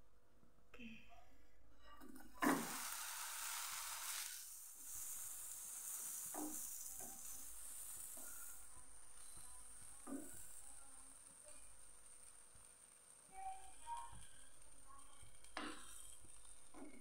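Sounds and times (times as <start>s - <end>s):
bread sizzling in pan: 2.4s - 17.0s.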